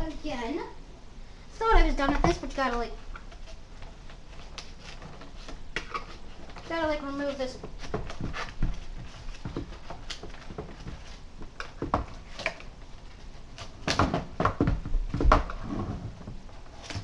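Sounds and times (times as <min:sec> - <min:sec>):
plastic and cardboard rustling: 0:01.6 - 0:17.0.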